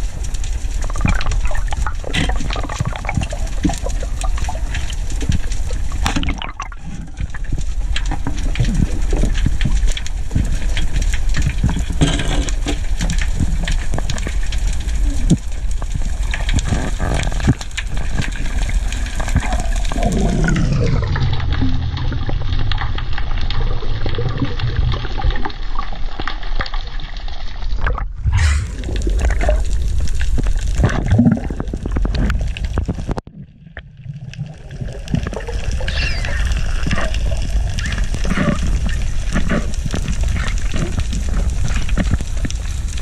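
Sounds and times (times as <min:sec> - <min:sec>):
underwater water rush: 0:00.0 - 0:43.0
bubbles streaming: 0:00.8 - 0:42.9.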